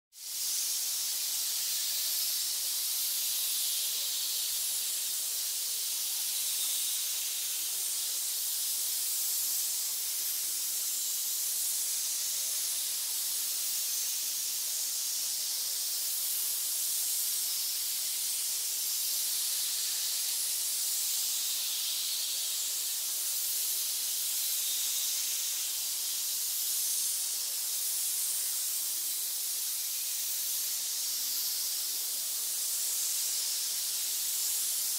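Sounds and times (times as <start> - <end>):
snakes hissing: 0.2 - 34.9.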